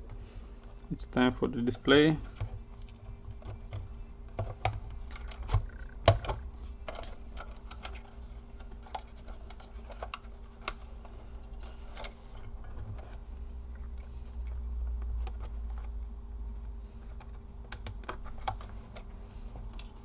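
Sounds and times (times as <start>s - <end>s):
laptop parts clicking and knocking: 2.3s - 20.0s.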